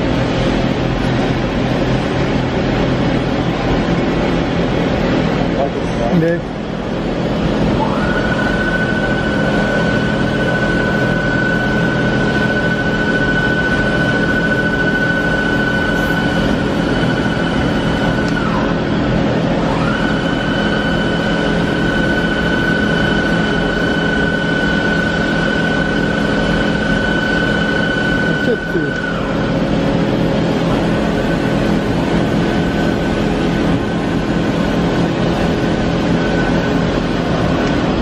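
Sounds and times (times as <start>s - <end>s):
low machine hum: 0.0s - 38.0s
machine spindle whine: 0.0s - 38.0s.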